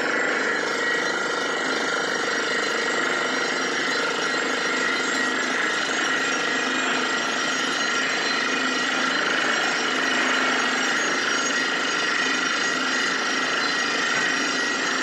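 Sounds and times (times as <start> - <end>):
drilling rig boring: 0.0 - 15.0.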